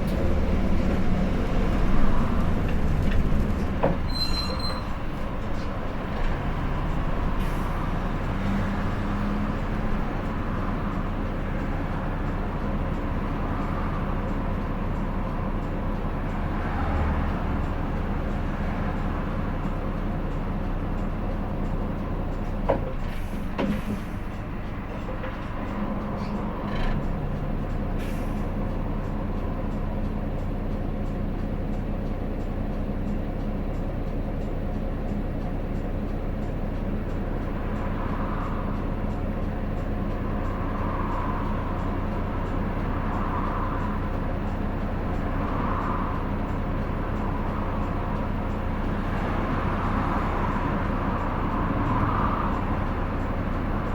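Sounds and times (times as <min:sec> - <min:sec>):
bus diesel engine running: 0:00.0 - 0:53.9.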